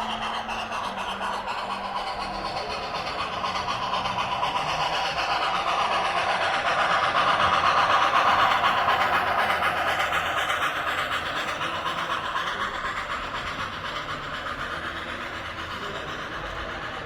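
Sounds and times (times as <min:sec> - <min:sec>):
model train wheels clattering: 0:00.0 - 0:17.0.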